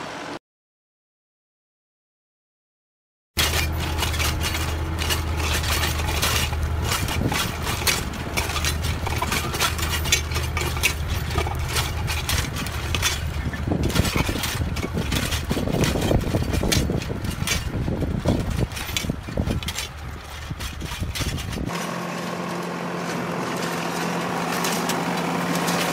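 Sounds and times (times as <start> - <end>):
hoe clicks and crackles in soil: 3.4 - 25.9
tractor engine idling: 3.4 - 25.9.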